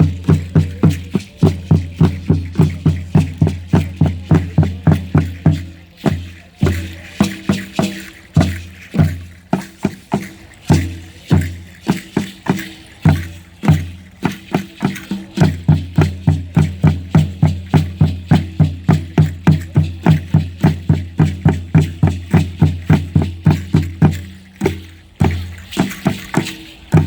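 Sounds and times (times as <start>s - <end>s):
low-pitched drum beating: 0.0s - 27.0s
rattles shaking: 0.0s - 27.0s.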